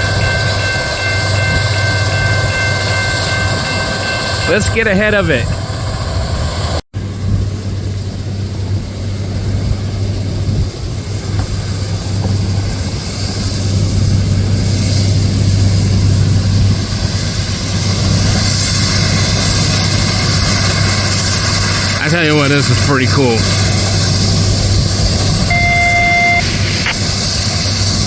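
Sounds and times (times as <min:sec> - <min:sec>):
diesel engines humming: 0:00.0 - 0:28.0.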